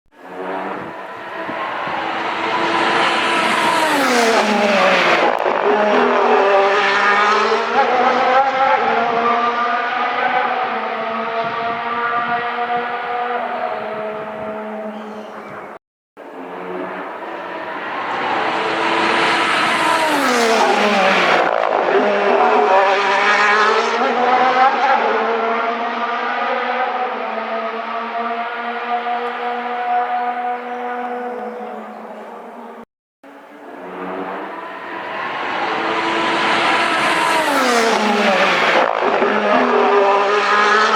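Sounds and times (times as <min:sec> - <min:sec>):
racing car engine at speed: 0:00.1 - 0:40.9.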